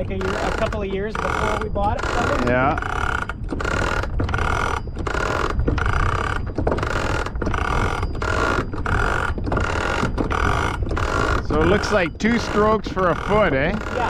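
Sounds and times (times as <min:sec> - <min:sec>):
windlass ratcheting: 0:00.0 - 0:14.0.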